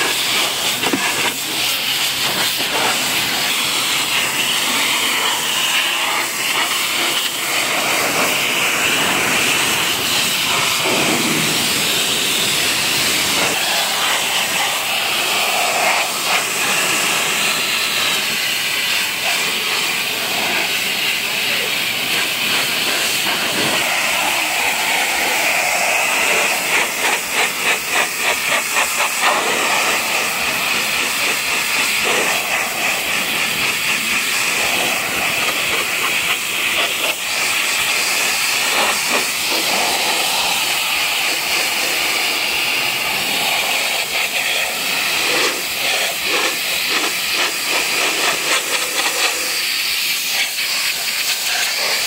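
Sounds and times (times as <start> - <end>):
pressure washer jet hissing: 0.0 - 52.0.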